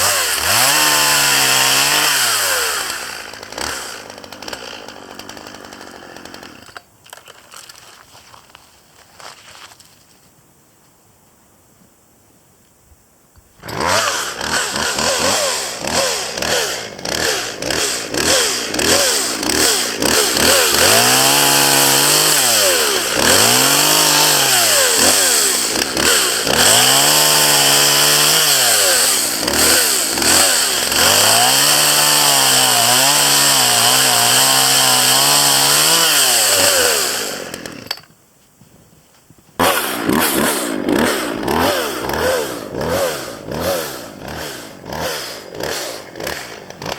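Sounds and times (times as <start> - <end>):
chainsaw revving and cutting: 0.0 - 6.8, 13.6 - 38.0, 39.6 - 46.9.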